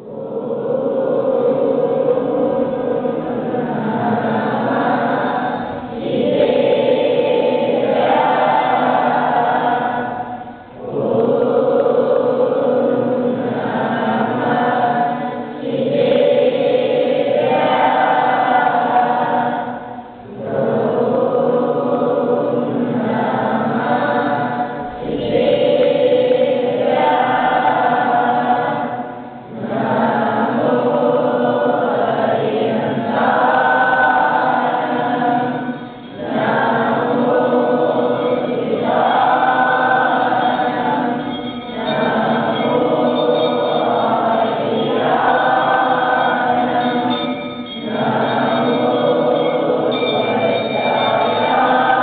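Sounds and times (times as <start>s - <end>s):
boys chanting in unison: 0.0s - 52.0s.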